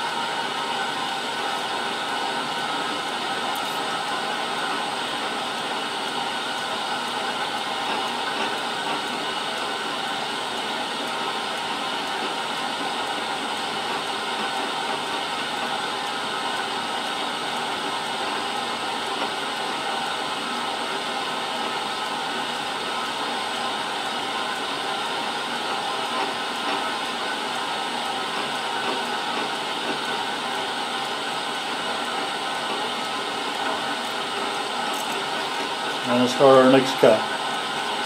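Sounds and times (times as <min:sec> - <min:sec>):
milling machine hissing: 0:00.0 - 0:38.0.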